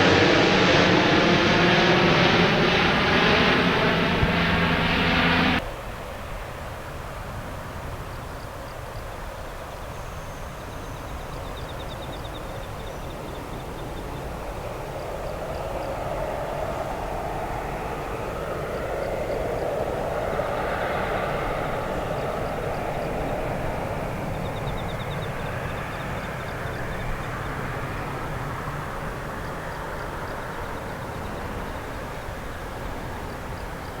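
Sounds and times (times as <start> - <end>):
jet airliner engine noise: 0.0 - 5.6, 10.4 - 34.0.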